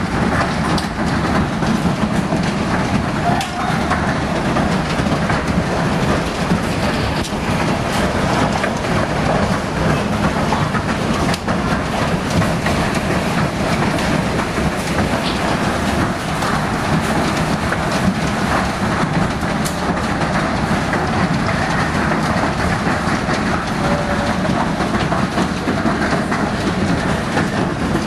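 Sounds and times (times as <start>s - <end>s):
hail and rain pelting down: 0.0s - 28.0s.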